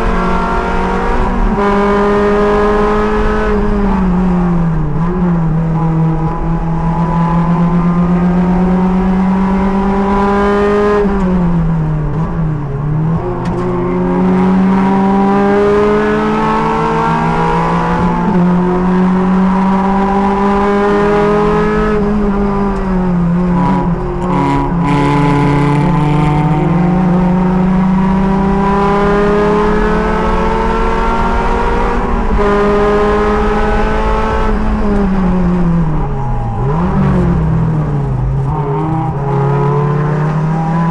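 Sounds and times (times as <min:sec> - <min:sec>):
race car engine at high revs: 0:00.0 - 0:40.9.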